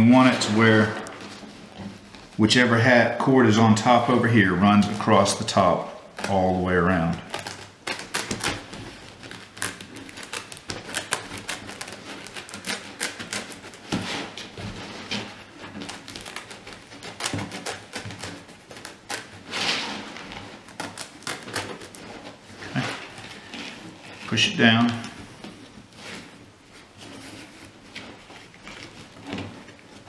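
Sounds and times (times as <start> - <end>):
rustling of hat cord: 0.0 - 30.0.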